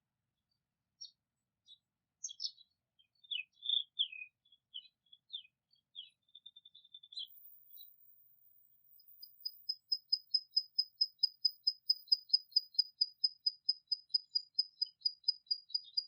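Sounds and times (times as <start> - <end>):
songbird chirping and trilling: 1.0 - 16.0.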